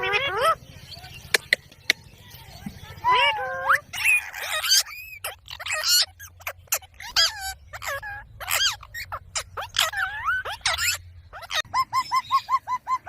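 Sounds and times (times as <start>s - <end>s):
parrot squawking: 0.0s - 1.5s, 2.8s - 13.0s.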